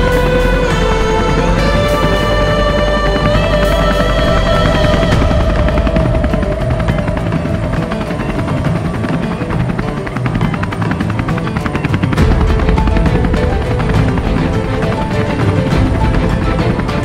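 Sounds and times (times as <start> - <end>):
helicopter rotor blades beating: 0.0 - 17.0
music: 0.0 - 17.0.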